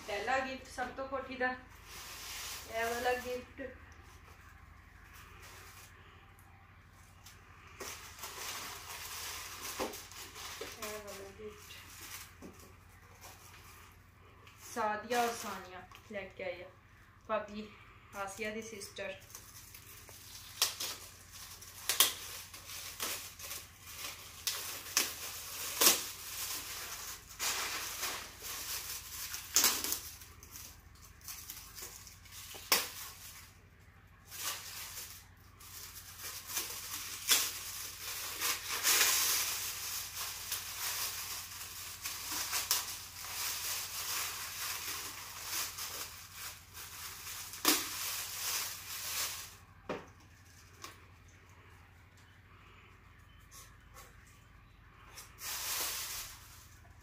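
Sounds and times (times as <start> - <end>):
gift wrap crinkling and tearing: 1.6 - 6.2, 7.1 - 16.1, 19.1 - 51.0, 55.0 - 56.9.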